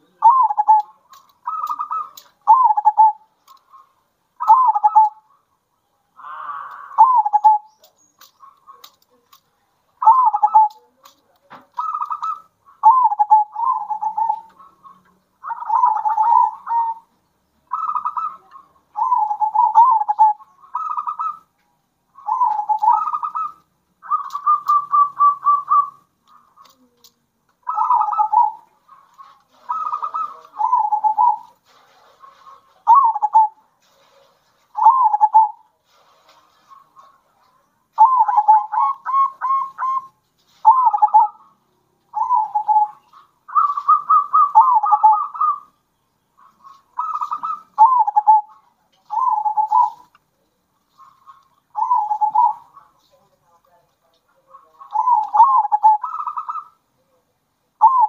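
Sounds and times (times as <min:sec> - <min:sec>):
doves cooing: 0:00.0 - 0:09.4, 0:10.0 - 0:21.5, 0:22.1 - 0:45.8, 0:46.4 - 0:50.2, 0:50.8 - 0:53.2, 0:54.3 - 0:56.8, 0:57.8 - 0:58.0.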